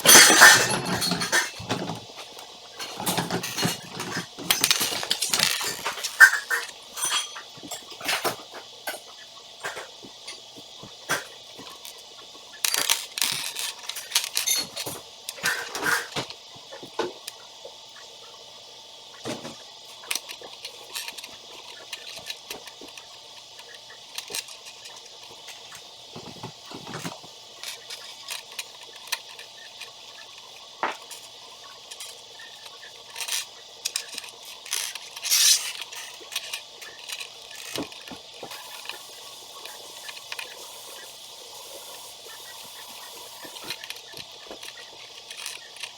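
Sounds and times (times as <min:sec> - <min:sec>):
toy pieces clicking and clattering: 0:02.8 - 0:12.0, 0:12.6 - 0:16.3, 0:20.0 - 0:25.6, 0:26.7 - 0:45.9.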